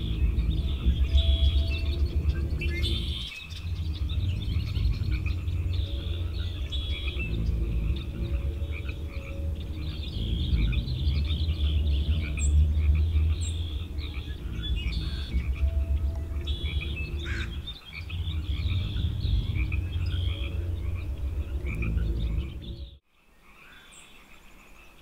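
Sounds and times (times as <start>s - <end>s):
steady low rumble: 0.0s - 23.0s
frogs calling: 0.0s - 23.8s
small birds chirping: 0.0s - 25.0s.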